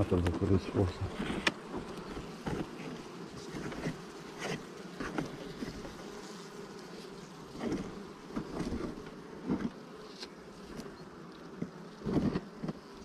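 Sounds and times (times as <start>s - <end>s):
honeybees humming: 0.0s - 13.0s
metal hive tool scraping wax: 0.2s - 13.0s.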